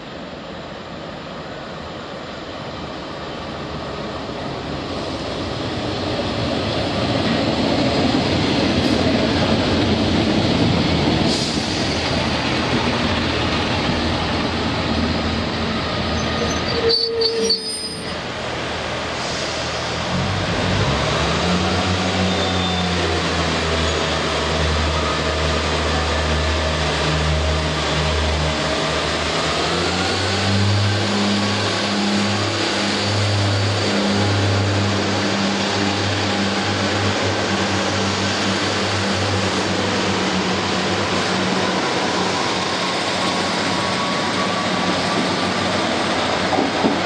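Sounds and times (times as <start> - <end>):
train diesel engine drone: 0.0 - 47.0.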